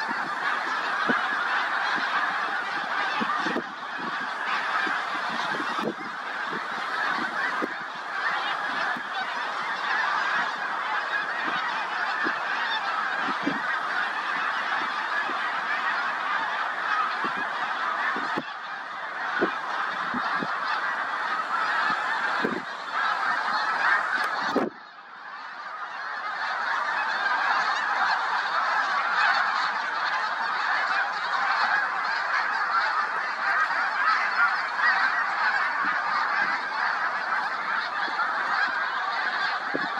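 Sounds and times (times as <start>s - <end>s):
geese honking: 0.0s - 39.9s.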